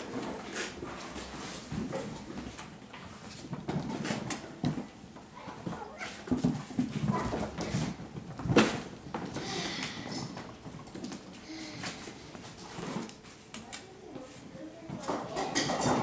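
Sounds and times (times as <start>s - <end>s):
kittens scampering on tiles: 0.0s - 13.9s.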